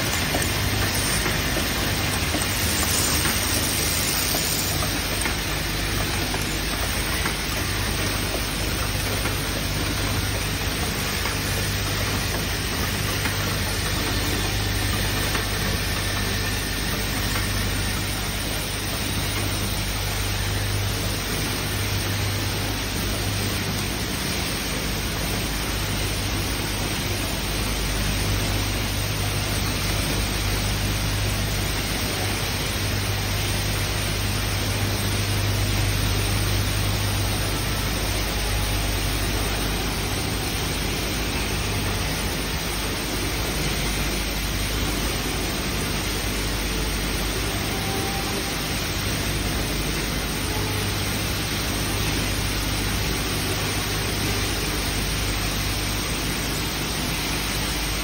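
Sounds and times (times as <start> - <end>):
machine humming and hissing: 0.0 - 58.0.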